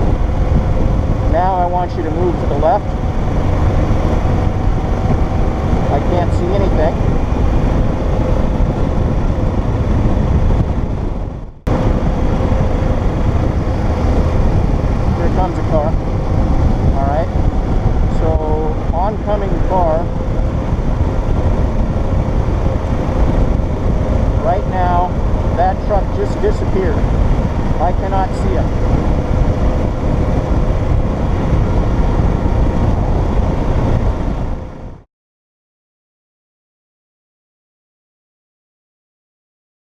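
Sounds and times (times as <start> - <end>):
motorcycle engine humming: 0.0 - 35.0
wind rushing over microphone: 0.0 - 35.1.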